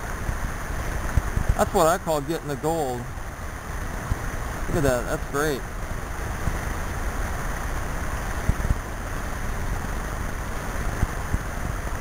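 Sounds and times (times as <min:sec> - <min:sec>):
creek water flowing: 0:00.0 - 0:12.0
wind rumble on microphone: 0:00.0 - 0:12.0.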